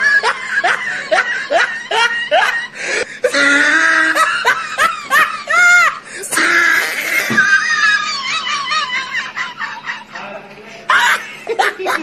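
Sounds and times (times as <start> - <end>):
person laughing: 0.0 - 12.0.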